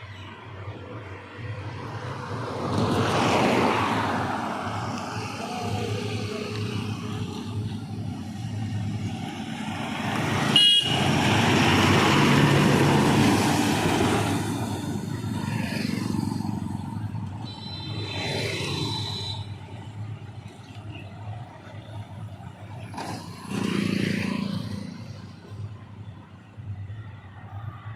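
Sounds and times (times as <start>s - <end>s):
trucks passing at speed: 0.0s - 25.9s.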